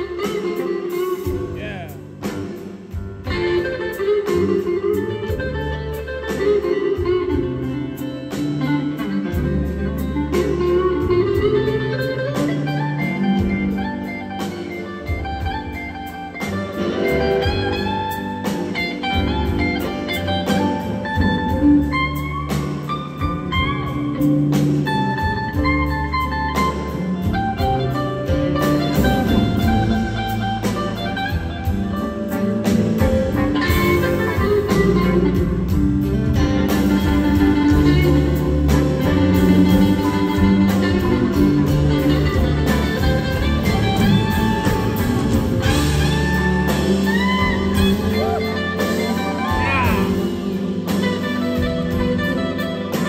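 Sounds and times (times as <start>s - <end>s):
electric blues band playing: 0.0s - 53.0s
lead electric guitar bending notes: 0.0s - 53.0s.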